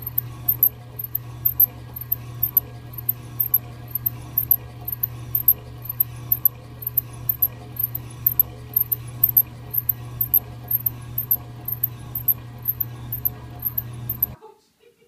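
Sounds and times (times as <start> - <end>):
low motor hum: 0.0 - 14.4.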